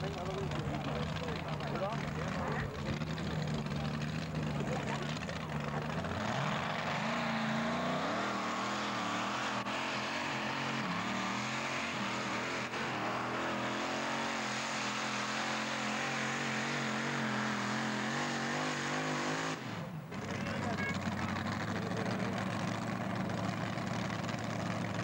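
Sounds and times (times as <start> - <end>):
tractor engine at high revs: 0.0 - 25.0.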